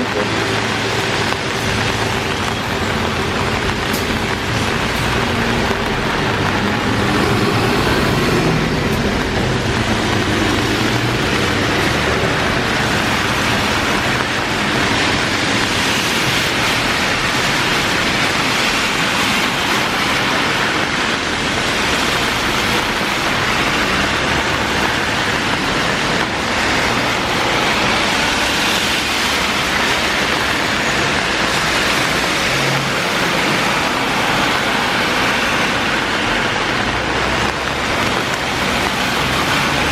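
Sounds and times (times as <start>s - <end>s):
cars passing on wet road: 0.0s - 39.9s
heavy rain pouring: 0.0s - 39.9s
vehicle engine: 0.0s - 39.9s.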